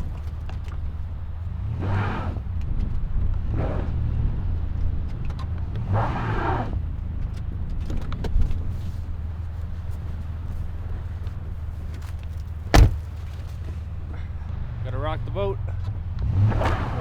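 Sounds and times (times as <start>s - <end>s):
van engine revving: 0.0s - 17.0s.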